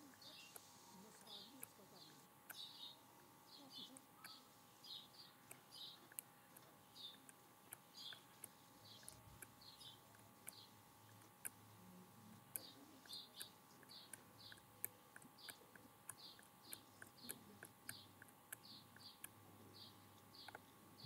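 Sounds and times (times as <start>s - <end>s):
bird chirping: 0.0s - 11.5s, 12.5s - 21.0s
faint steady hum: 0.0s - 21.0s.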